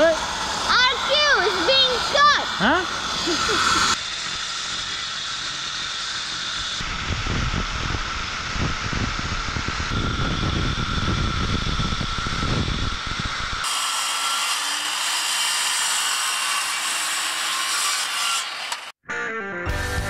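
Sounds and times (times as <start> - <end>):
circular saw cutting wood: 0.0 - 19.0
second circular saw higher pitch: 0.0 - 19.0.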